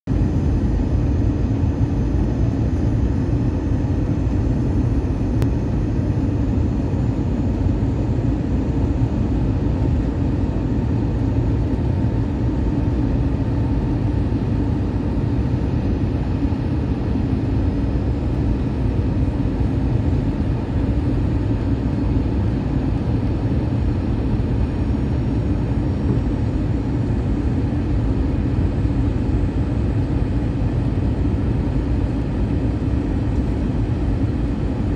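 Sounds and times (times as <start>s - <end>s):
airliner engines rumbling: 0.1s - 34.9s.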